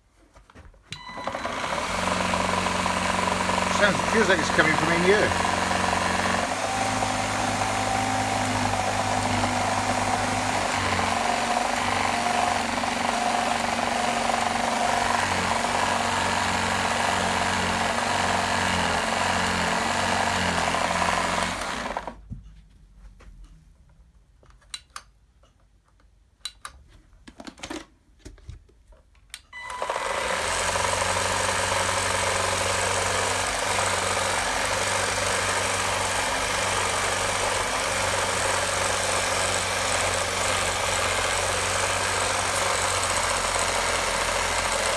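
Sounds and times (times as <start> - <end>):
cordless vacuum cleaner running: 1.0 - 22.2, 29.6 - 44.9.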